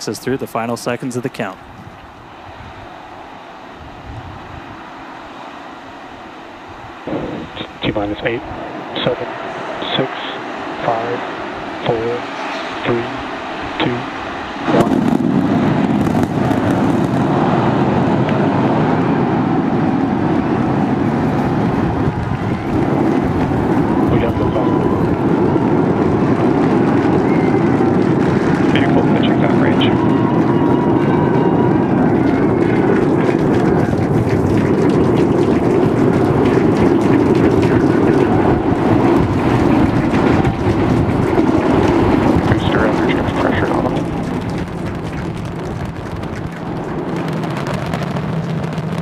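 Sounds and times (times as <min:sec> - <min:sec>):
rocket engines deep rumble: 0:00.0 - 0:49.0.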